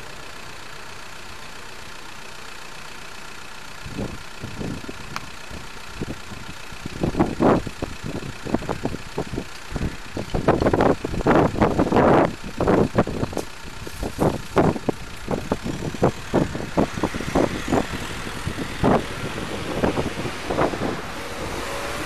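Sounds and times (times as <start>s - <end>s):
steady rumble: 3.2s - 22.0s.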